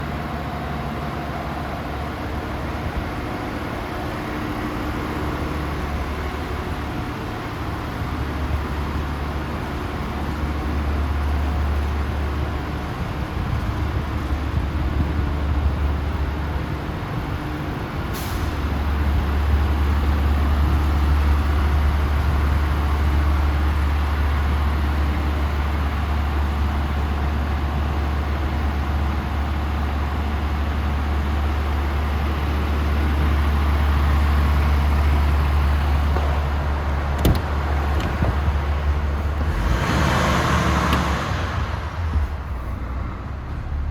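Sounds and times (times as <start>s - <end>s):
truck diesel engine humming: 0.0s - 43.9s.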